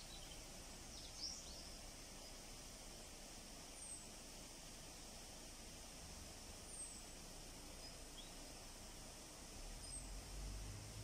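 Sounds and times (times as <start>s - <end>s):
small birds chirping: 0.0s - 10.6s
steady outdoor hiss: 0.0s - 11.0s.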